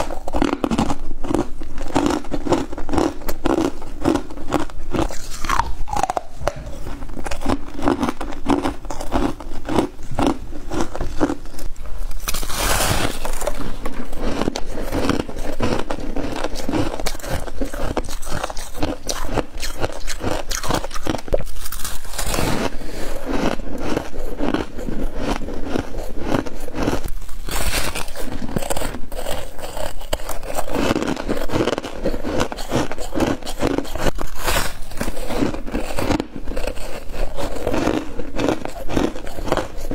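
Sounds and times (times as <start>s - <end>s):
chewing frost chunks: 0.0s - 39.9s.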